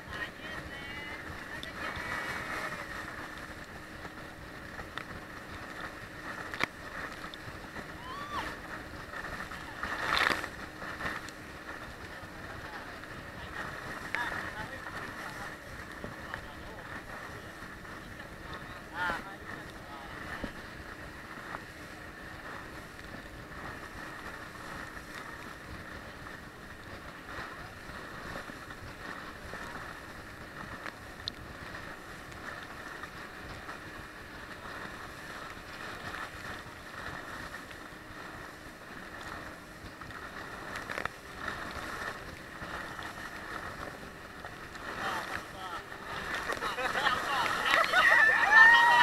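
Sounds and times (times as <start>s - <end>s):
water and wind rushing: 0.0s - 49.0s.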